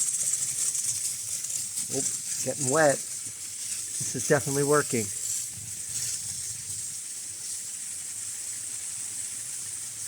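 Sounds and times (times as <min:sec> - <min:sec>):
water spraying hiss: 0:00.0 - 0:10.0.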